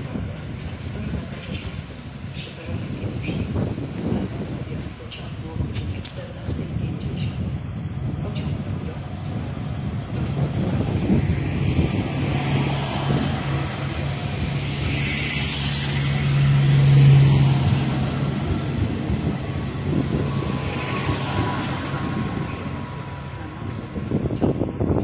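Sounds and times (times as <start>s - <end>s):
diesel train engine passing: 0.0s - 25.0s.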